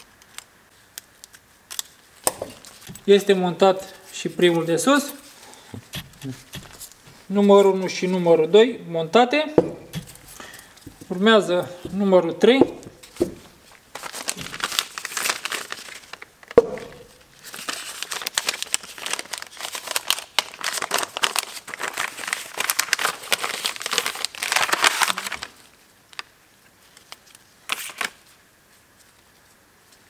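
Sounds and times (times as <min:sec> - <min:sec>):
packaging crinkling and rustling: 0:00.0 - 0:08.1, 0:09.6 - 0:28.4.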